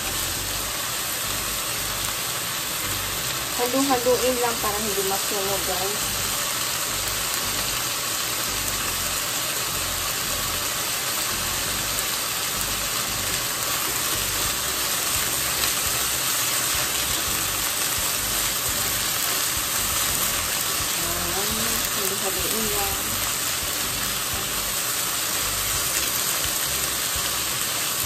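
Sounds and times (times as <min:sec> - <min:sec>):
chicken sizzling in frying pan: 0:00.0 - 0:28.0.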